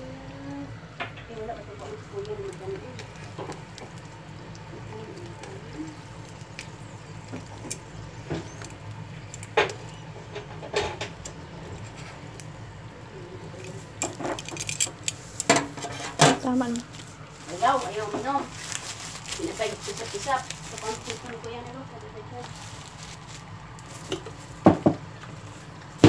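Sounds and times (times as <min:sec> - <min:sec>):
fish sizzling in oil: 0:00.0 - 0:26.0.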